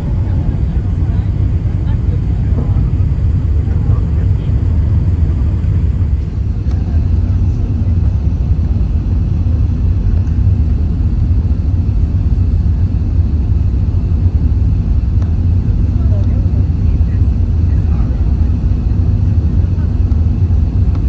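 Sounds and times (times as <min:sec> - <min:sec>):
airliner cabin engine noise: 0:00.0 - 0:21.0.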